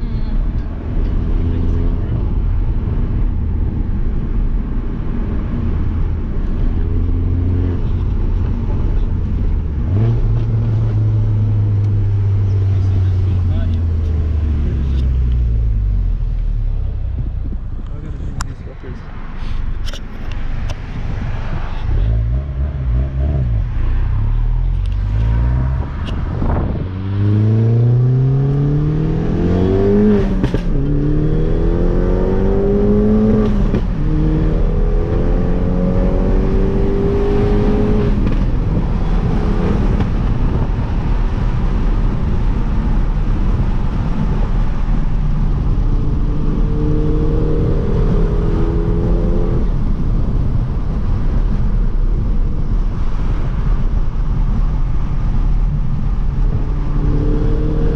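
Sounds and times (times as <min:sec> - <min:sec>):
car engine accelerating: 0:00.0 - 0:57.9
road noise: 0:00.0 - 0:57.9.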